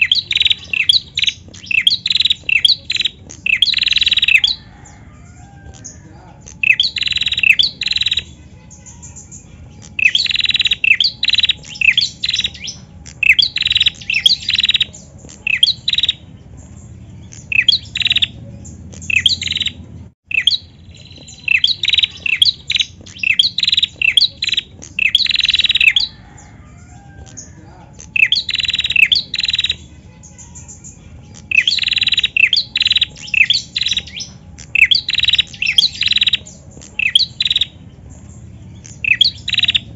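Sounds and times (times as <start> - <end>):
bird rapid high chirps: 0.0 - 39.9.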